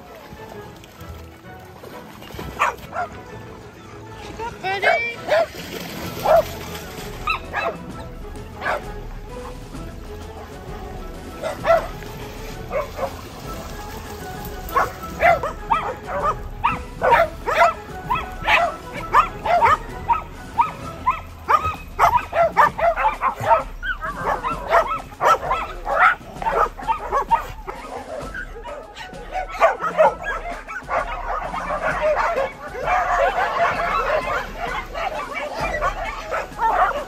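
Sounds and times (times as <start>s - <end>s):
dogs barking and yipping: 0.0s - 37.0s.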